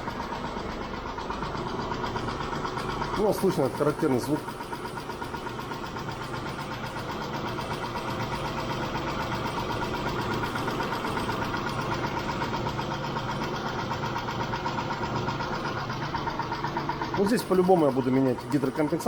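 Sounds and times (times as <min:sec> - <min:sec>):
car engine running: 0:00.0 - 0:19.0
fast ticking of valve lifters: 0:00.0 - 0:19.0.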